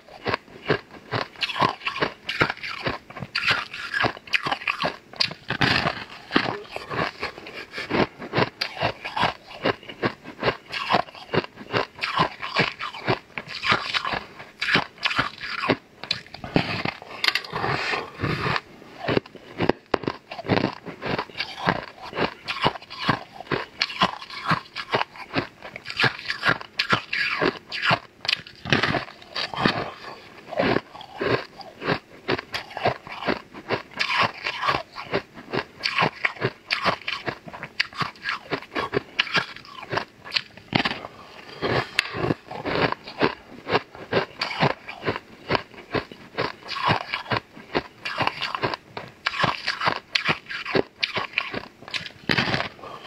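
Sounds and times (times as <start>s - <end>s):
crunchy biting and chewing: 0.0s - 53.0s.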